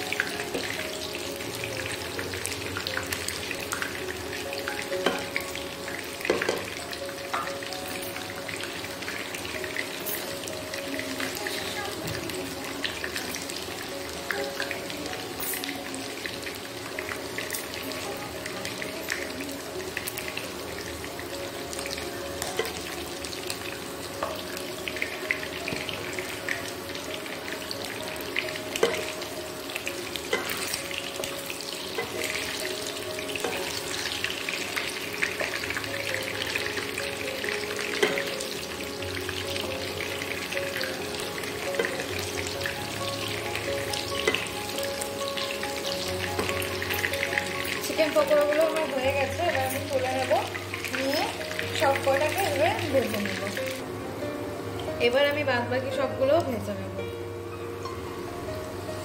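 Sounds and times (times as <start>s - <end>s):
food sizzling in oil: 0.0s - 59.0s.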